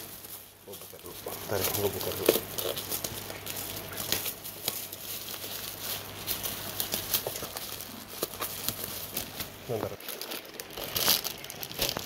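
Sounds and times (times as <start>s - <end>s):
faint low hum: 0.0s - 12.0s
plastic bag crinkling: 0.0s - 12.0s.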